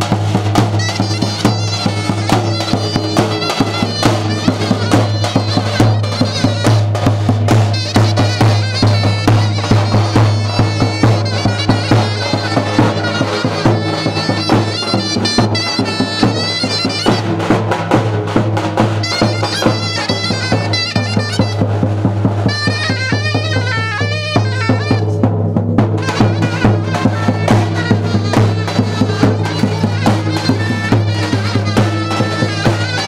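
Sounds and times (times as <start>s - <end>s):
drum beating time: 0.0s - 33.0s
zurna folk melody: 0.0s - 33.0s.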